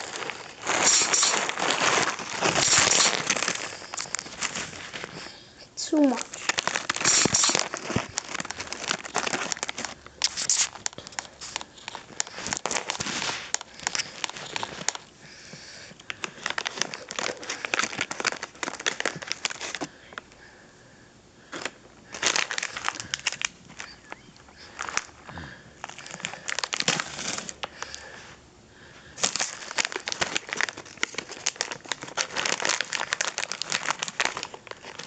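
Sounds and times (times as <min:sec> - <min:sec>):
crinkling and crackling: 0:00.0 - 0:20.6, 0:21.4 - 0:35.0.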